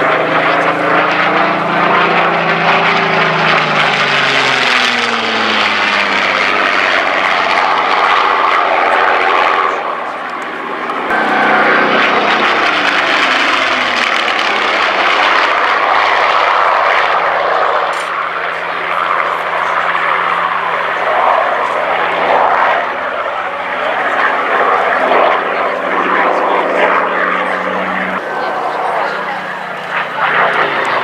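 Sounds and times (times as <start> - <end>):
propeller aircraft engine passing: 0.0 - 31.0.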